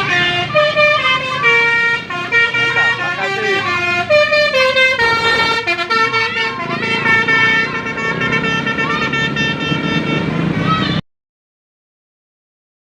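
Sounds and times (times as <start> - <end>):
musical air horn chords: 0.0 - 10.8.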